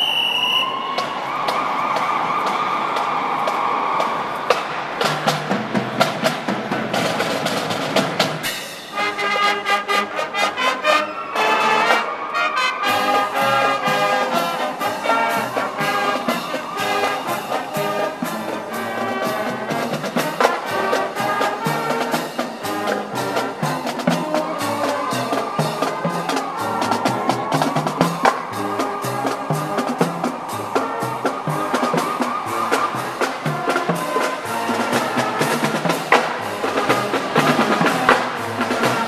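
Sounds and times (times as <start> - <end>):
marching band playing: 0.0 - 39.0
marching drums: 0.7 - 11.0, 11.7 - 39.0.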